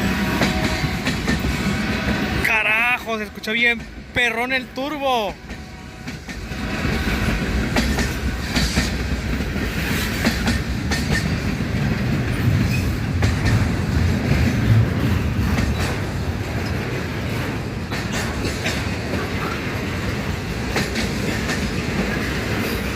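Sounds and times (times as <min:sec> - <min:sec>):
wheels clacking over rail joints: 0:00.0 - 0:02.5, 0:05.4 - 0:22.9
diesel locomotives rumbling: 0:00.0 - 0:22.9.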